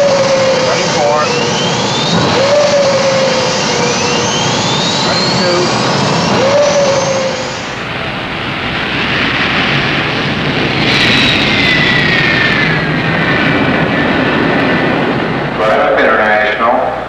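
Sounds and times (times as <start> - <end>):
rush of air: 0.0 - 15.6
jet turbine whine rising: 0.0 - 17.0
jet whine falling in pitch: 0.0 - 17.0.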